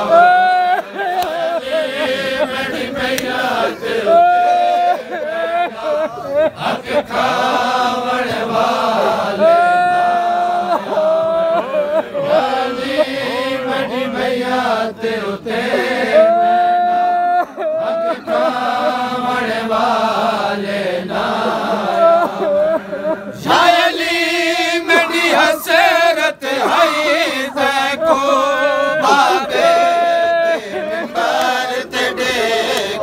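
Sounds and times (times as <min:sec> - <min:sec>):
men chanting: 0:00.0 - 0:33.0.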